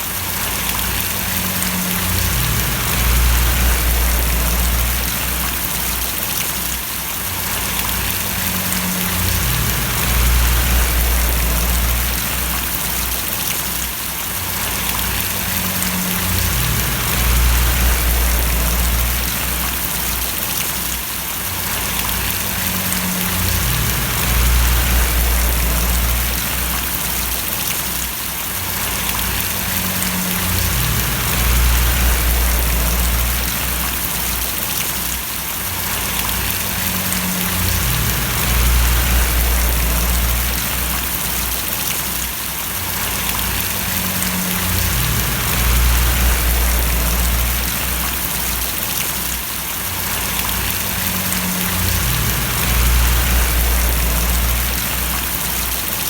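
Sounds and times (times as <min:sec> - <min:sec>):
rain falling and splashing: 0:00.0 - 0:56.0
deep rumble: 0:00.5 - 0:06.2, 0:07.6 - 0:13.5, 0:14.6 - 0:20.4, 0:21.7 - 0:27.7, 0:28.8 - 0:34.6, 0:36.0 - 0:41.9, 0:43.0 - 0:48.9, 0:50.1 - 0:56.0.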